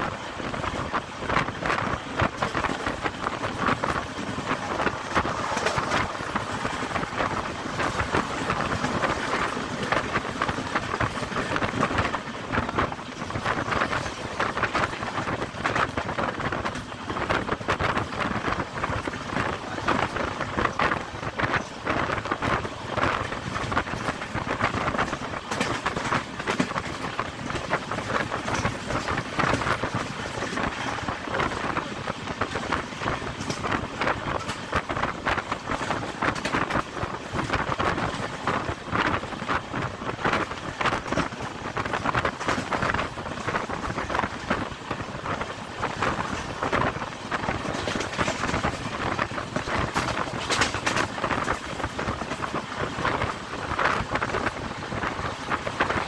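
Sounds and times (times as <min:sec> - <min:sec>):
train wheels on rails: 0:00.0 - 0:56.0
wind on microphone: 0:00.0 - 0:56.0.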